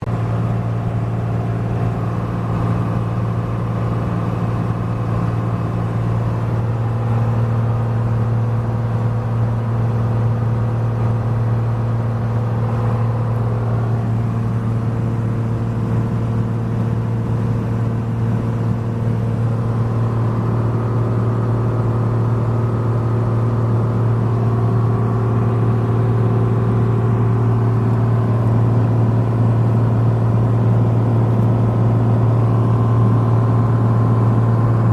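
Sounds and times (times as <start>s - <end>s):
propeller aircraft engine droning: 0.0s - 34.9s.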